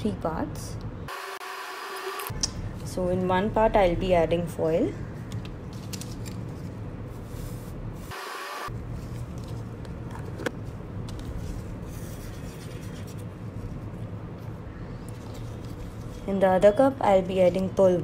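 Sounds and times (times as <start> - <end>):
steady low hum: 2.3 - 18.0.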